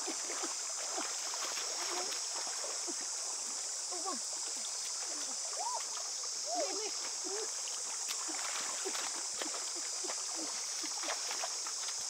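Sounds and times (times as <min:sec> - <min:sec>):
insects droning: 0:00.0 - 0:12.0
stream water splashing: 0:00.0 - 0:12.0.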